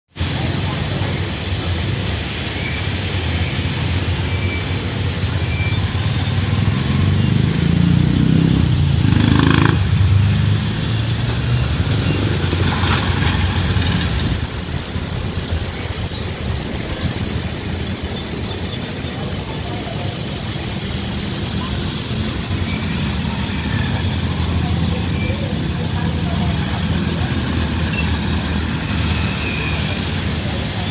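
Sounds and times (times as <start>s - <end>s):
jet engines rumbling: 0.1s - 30.9s.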